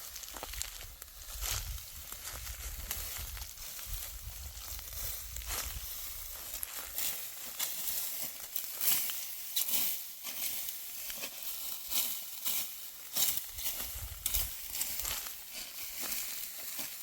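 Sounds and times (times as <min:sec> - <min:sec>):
sickle cutting dry wheat stalks: 0:00.0 - 0:17.0.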